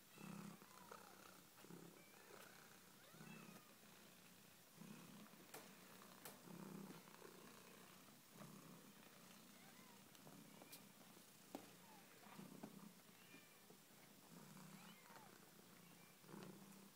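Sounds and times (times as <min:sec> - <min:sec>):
cat purring faintly: 0:00.2 - 0:16.9.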